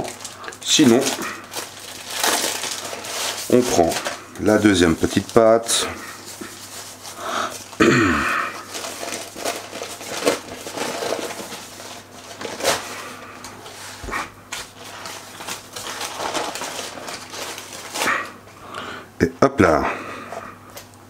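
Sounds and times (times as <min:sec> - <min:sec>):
baking paper crinkling: 0:00.0 - 0:18.6.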